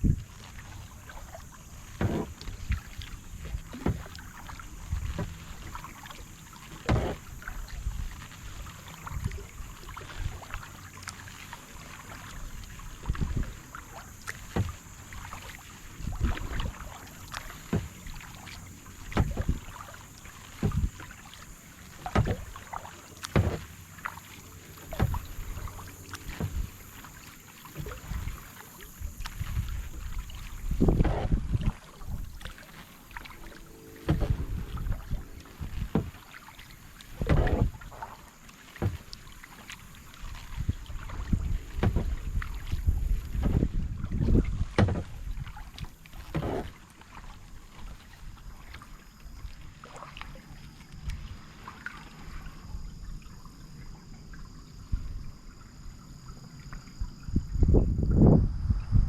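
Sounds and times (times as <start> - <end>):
kayak paddle strokes in water: 0.0 - 58.4.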